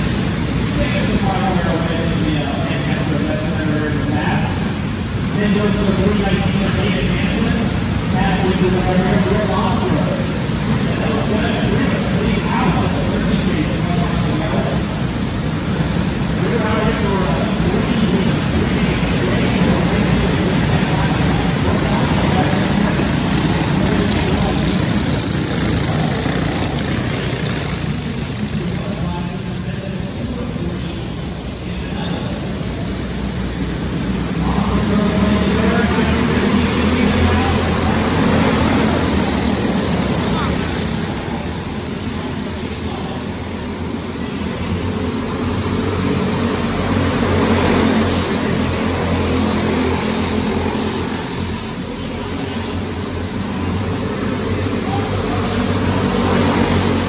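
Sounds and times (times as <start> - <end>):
go-kart engines racing: 0.0 - 57.0.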